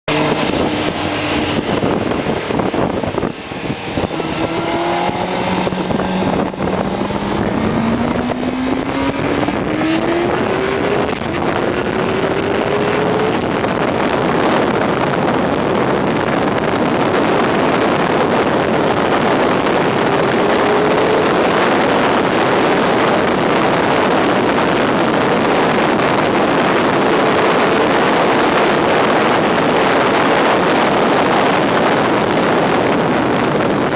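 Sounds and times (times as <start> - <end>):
motorcycle engine accelerating: 0.0 - 33.9
wind rushing over microphone: 0.1 - 33.9.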